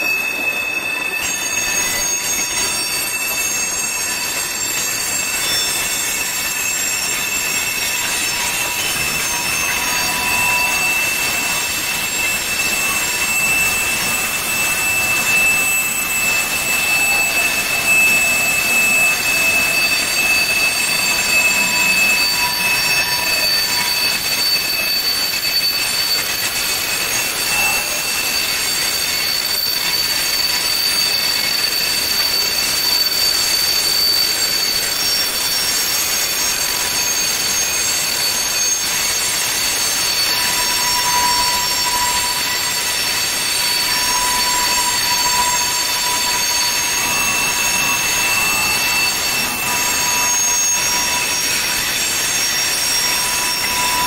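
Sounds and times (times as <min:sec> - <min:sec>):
rumble of train wheels: 0:00.0 - 0:54.0
train wheels squealing on rails: 0:00.0 - 0:54.0.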